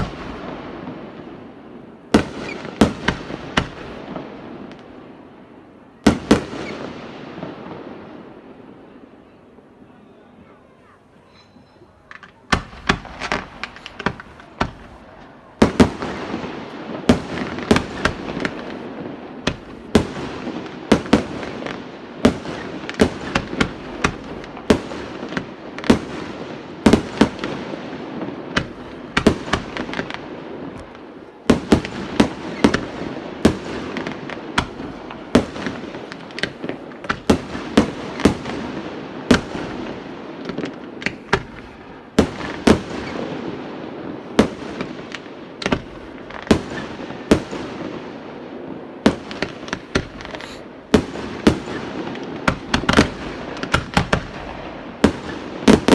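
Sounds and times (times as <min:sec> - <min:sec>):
fireworks bangs: 0:00.0 - 0:55.9
fireworks crackling: 0:00.0 - 0:55.9.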